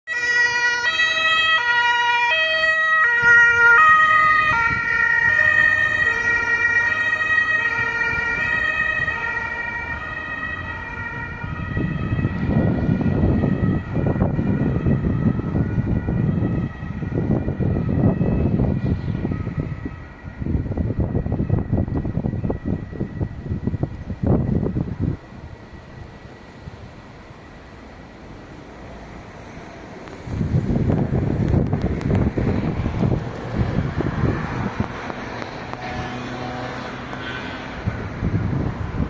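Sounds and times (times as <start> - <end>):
two-tone siren: 0.1 - 28.4, 32.1 - 39.0
road traffic rumble: 0.1 - 39.0.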